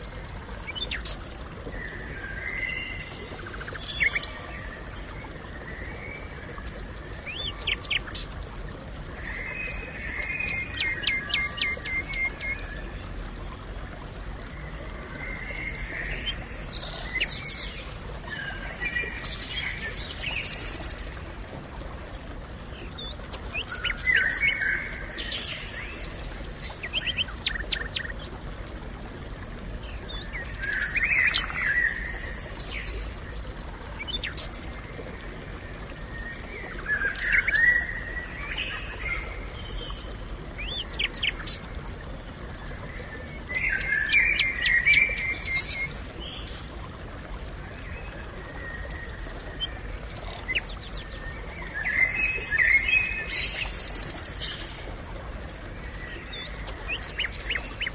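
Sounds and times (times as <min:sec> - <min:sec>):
birds singing: 0:00.0 - 0:13.3, 0:22.0 - 0:28.4, 0:29.2 - 0:46.7, 0:47.5 - 0:57.9.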